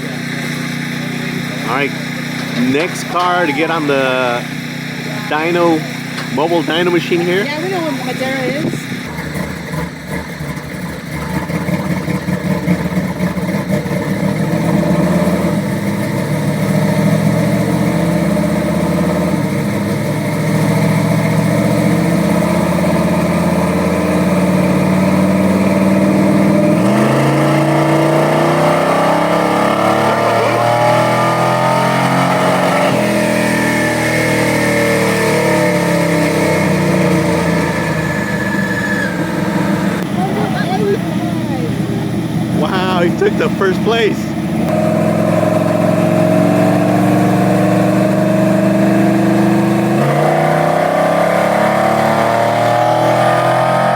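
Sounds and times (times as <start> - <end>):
truck engine revving at full throttle: 0.0 - 53.9.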